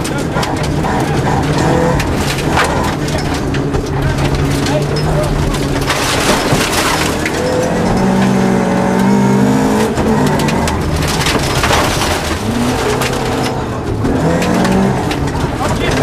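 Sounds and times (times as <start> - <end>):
gravel clattering against car underside: 0.0 - 16.0
rally car engine at full throttle: 0.0 - 16.0.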